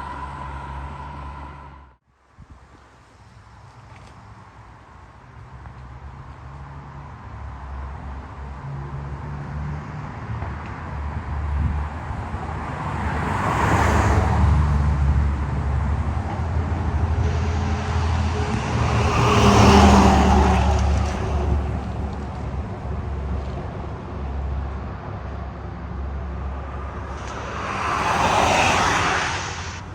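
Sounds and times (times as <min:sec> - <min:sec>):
vehicles driving past: 0:00.0 - 0:02.0, 0:03.1 - 0:29.9.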